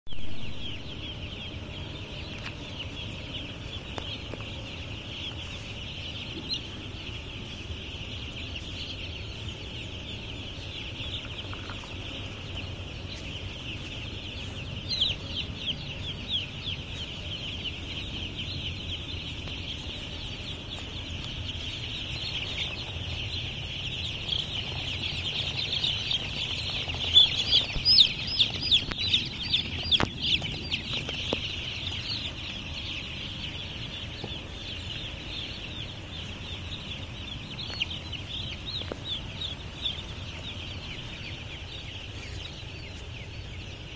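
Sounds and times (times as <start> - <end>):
chicks peeping: 0.1 - 43.9.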